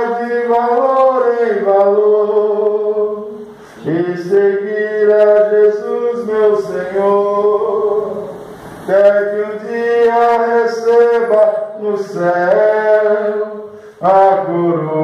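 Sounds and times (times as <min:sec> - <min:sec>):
man singing a hymn: 0:00.0 - 0:15.0.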